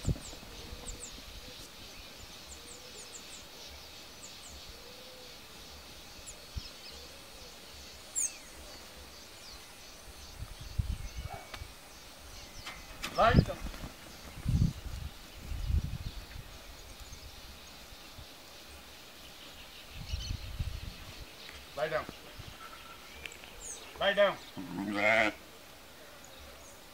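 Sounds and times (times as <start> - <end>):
small birds chirping: 0.0 - 26.9
steady background hiss: 0.0 - 26.9.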